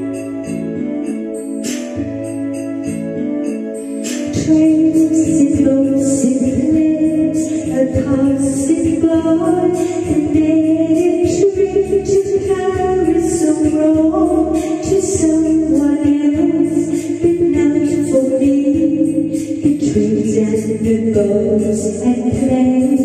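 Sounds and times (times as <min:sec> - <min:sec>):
karaoke backing track: 0:00.0 - 0:23.0
woman singing into microphone: 0:04.2 - 0:23.0.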